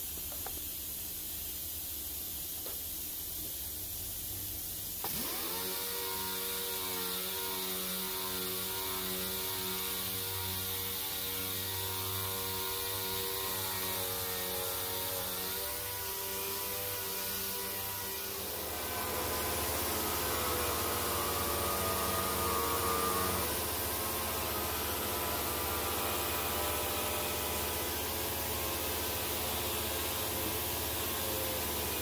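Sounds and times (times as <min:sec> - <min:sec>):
orbital sander on metal: 0:05.1 - 0:32.0.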